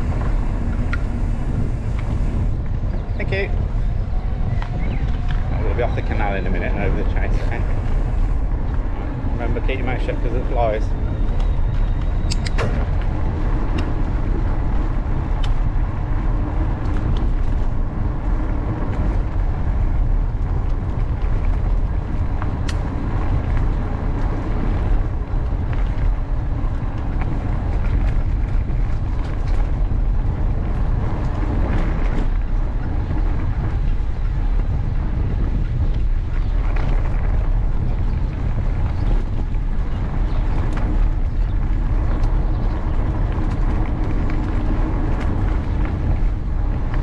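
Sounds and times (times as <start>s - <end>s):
bike rolling noise: 0.0s - 47.0s
wind rumble on microphone: 0.0s - 47.0s.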